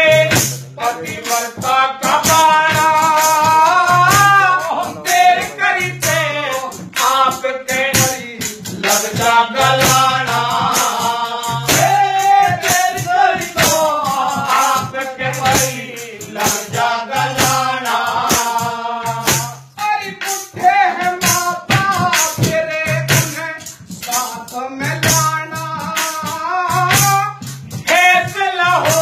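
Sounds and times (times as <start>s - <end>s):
sharp percussive clicks: 0.2s - 29.0s.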